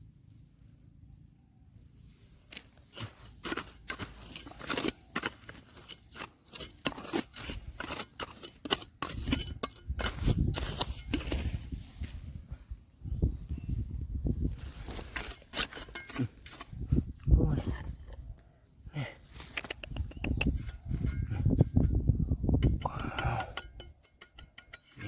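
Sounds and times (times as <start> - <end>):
stones and gravel scraping: 2.3 - 12.7, 14.4 - 18.4, 19.2 - 25.0.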